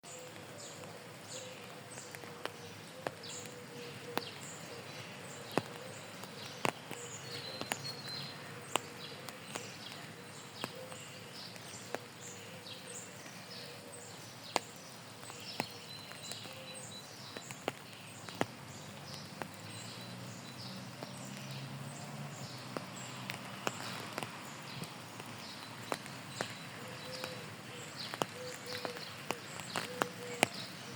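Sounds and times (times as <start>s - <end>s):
raindrops tapping: 0.0s - 30.9s
small bird chirping: 0.0s - 30.9s.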